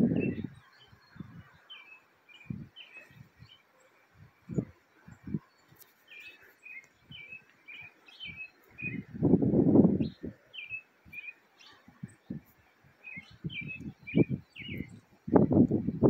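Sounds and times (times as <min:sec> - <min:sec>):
wind gusts on microphone: 0:00.0 - 0:01.7, 0:02.3 - 0:05.7, 0:08.2 - 0:16.0
small birds chirping: 0:00.0 - 0:16.0.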